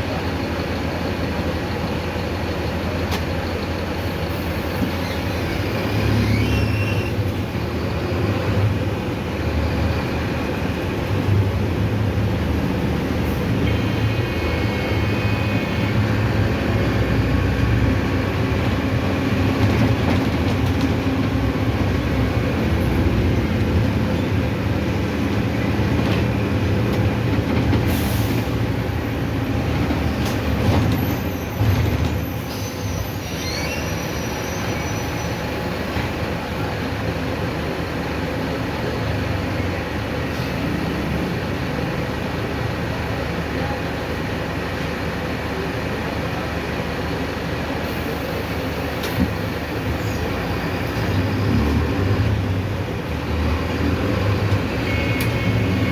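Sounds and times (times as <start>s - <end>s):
bus diesel engine running: 0.0s - 55.9s
road noise: 0.0s - 55.9s.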